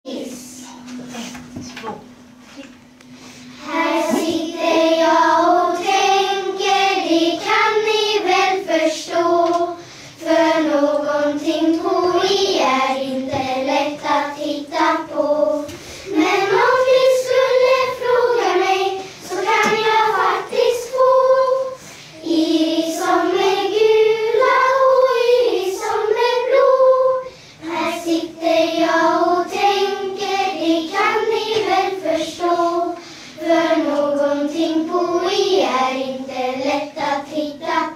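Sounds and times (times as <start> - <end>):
children singing together: 3.5 - 37.9.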